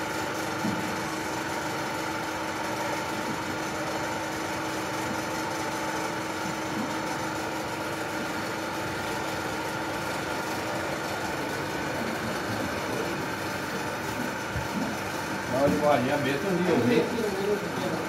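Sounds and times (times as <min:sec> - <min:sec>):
machinery motor hum: 0:00.0 - 0:18.0.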